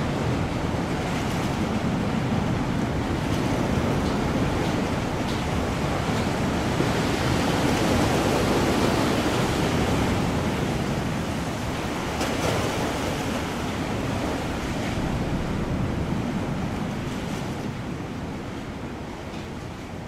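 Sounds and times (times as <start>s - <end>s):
rough ocean waves and surf: 0.0s - 20.0s.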